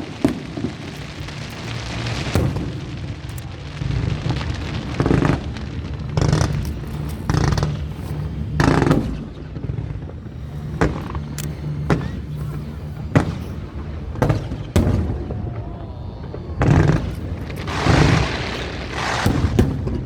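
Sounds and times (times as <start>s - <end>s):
fireworks booming: 0.0s - 20.0s
fireworks crackling: 0.0s - 20.0s.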